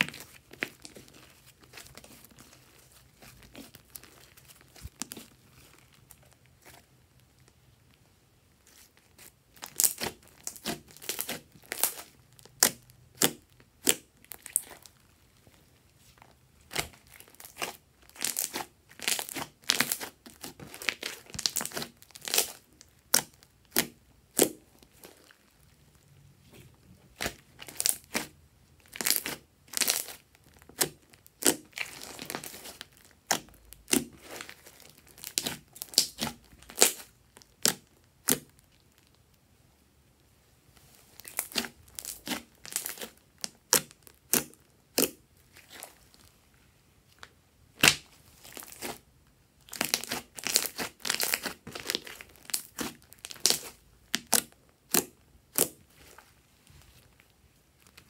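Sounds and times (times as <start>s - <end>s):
slime popping and crackling: 0.0s - 7.5s, 8.6s - 15.3s, 16.6s - 25.6s, 27.1s - 39.2s, 41.2s - 46.2s, 47.7s - 49.0s, 49.6s - 56.2s.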